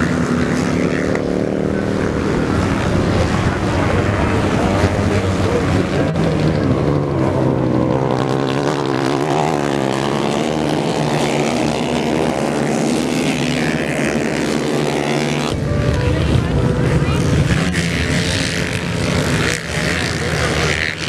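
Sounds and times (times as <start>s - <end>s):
racing motorcycle engines passing: 0.0s - 21.0s.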